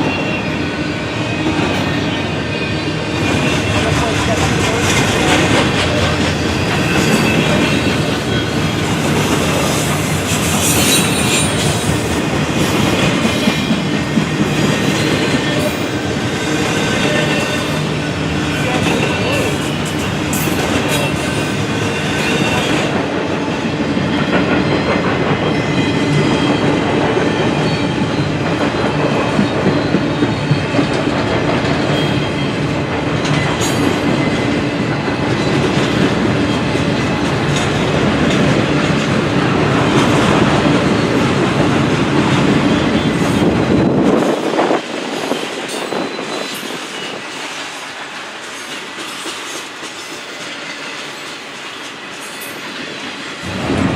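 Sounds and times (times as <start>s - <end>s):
freight train rolling past: 0.0s - 53.9s
train wheels clacking over rail joints: 3.1s - 23.4s, 24.0s - 53.9s.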